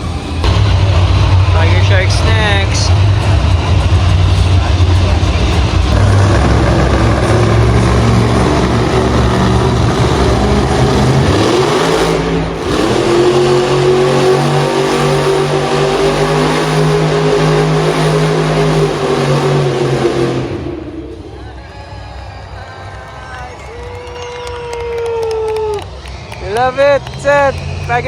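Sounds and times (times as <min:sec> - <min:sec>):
monster truck engine revving: 0:00.0 - 0:28.0.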